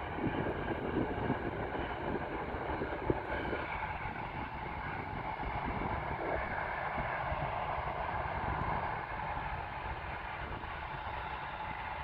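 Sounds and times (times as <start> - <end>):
distant jet engines taxiing: 0.0 - 12.0.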